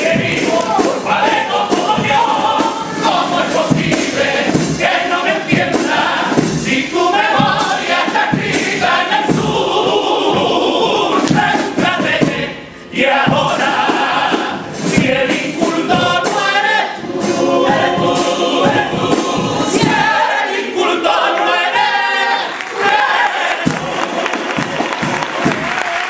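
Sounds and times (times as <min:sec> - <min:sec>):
chorus singing in several voices: 0:00.0 - 0:26.0.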